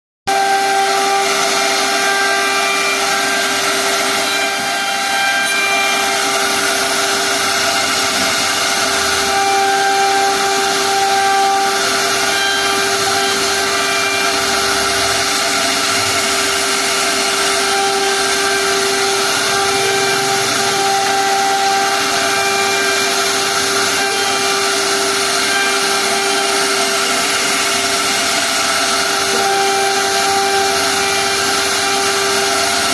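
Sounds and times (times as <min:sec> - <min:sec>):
machine whine: 0:00.3 - 0:32.9.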